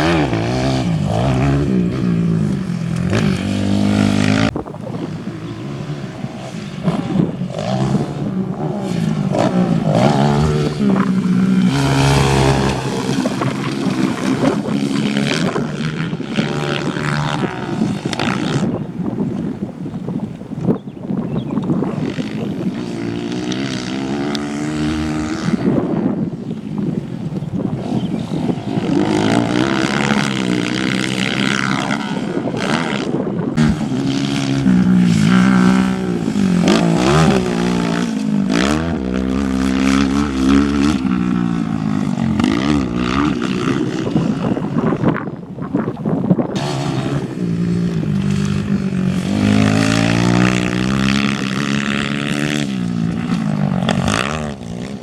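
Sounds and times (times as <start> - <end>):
motorcycle engines revving: 0.0 - 55.0.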